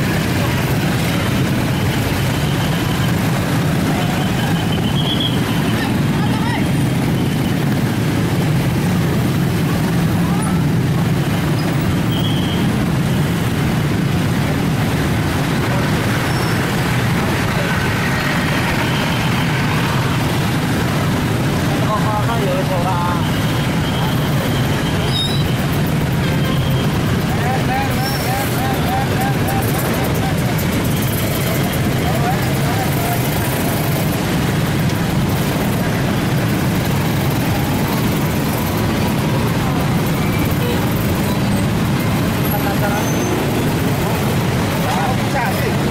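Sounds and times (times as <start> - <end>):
heavy vehicle engine rumble: 0.0 - 45.9
road traffic noise: 0.0 - 45.9.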